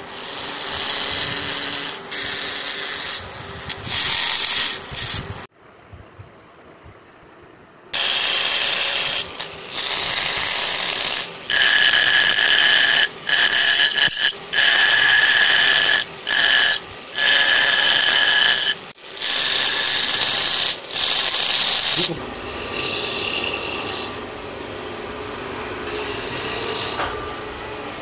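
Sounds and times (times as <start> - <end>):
rotary tool cutting wood: 0.0 - 5.5, 8.0 - 24.2, 25.9 - 27.2.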